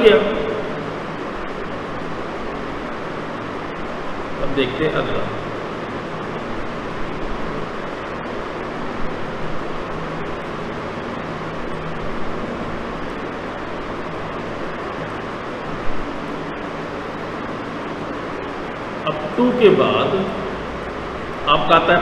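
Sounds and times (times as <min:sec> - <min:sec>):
background hiss: 0:00.0 - 0:22.0
low hum: 0:00.0 - 0:22.0.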